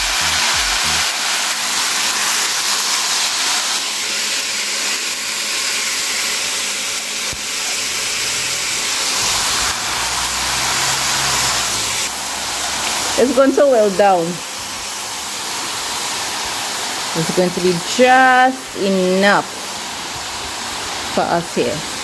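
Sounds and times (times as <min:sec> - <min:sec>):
leaves sizzling in hot oil: 0:00.0 - 0:22.0.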